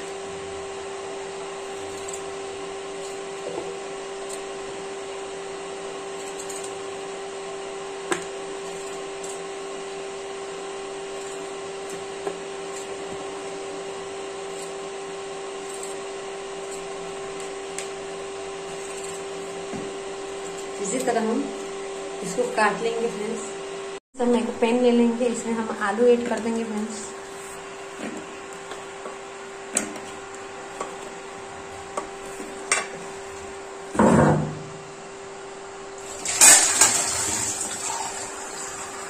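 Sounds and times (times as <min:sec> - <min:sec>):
motor hum with hiss: 0:00.0 - 0:39.0.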